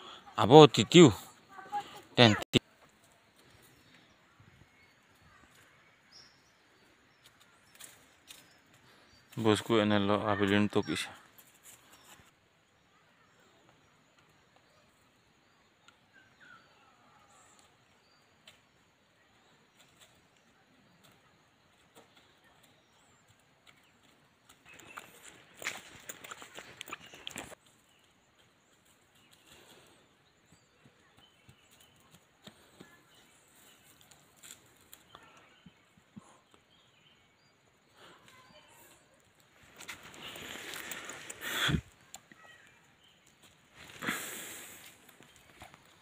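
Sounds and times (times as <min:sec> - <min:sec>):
soft bird chirps: 0:00.0 - 0:46.0.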